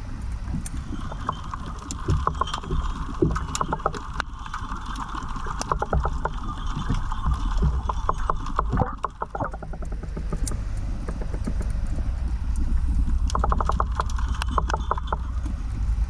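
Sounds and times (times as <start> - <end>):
sharp clicks and crackles: 0.0 - 16.0
underwater rumble of moving water: 0.0 - 16.0.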